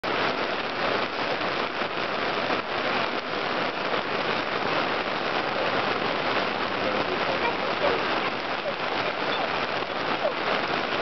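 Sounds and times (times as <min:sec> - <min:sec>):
heavy rain on fabric canopy: 0:00.0 - 0:11.0.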